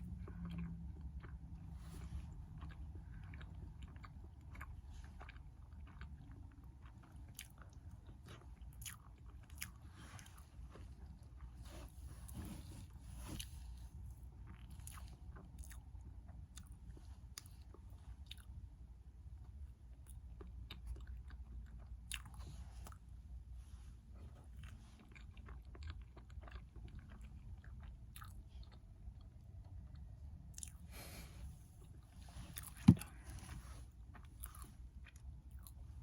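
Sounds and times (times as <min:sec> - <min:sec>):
person chewing: 0:00.0 - 0:18.6, 0:19.4 - 0:31.3, 0:31.9 - 0:35.9
steady low hum: 0:00.0 - 0:36.0.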